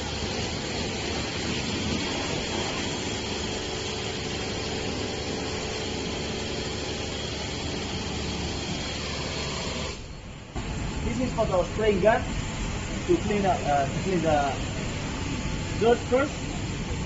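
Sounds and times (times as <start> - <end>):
car wash machine humming: 0.0 - 17.0
high-pressure water spray hiss: 0.0 - 17.0.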